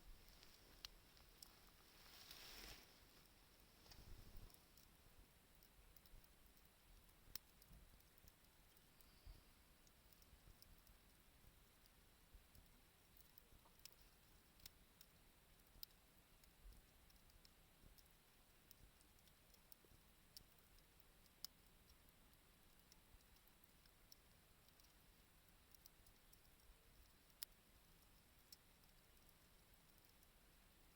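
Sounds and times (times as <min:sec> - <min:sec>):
bonfire crackling: 0:00.0 - 0:30.9.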